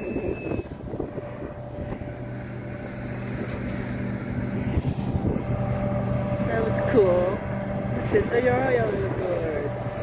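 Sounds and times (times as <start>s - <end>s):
diesel train engine hum: 0.0s - 10.0s.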